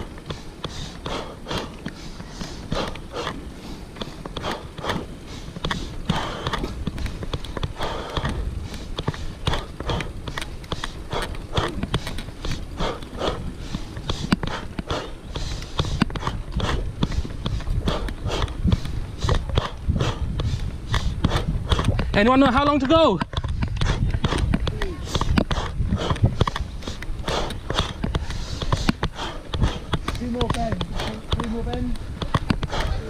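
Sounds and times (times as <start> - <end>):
heavy rhythmic breathing: 0.0 - 33.0
wind rumble on microphone: 0.0 - 33.0.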